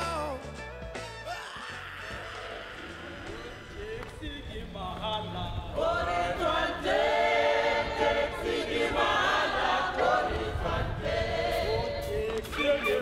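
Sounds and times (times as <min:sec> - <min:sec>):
group of people singing: 0:02.2 - 0:13.0.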